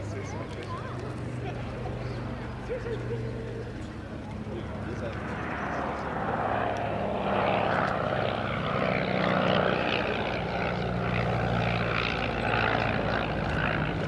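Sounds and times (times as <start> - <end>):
propeller plane engine in flight: 0.0 - 14.0.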